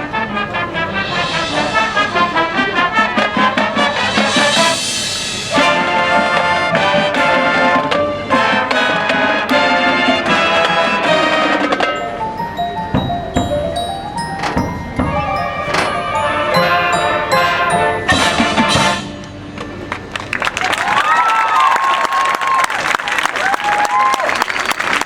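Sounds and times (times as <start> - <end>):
marching band playing: 0.0 - 20.7.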